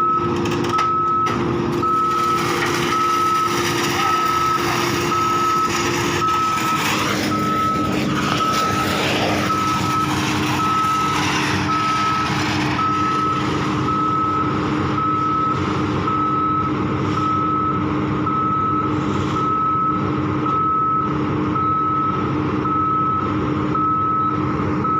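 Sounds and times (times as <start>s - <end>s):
diesel engine running: 0.0s - 24.9s
travel alarm beeping: 0.0s - 24.9s.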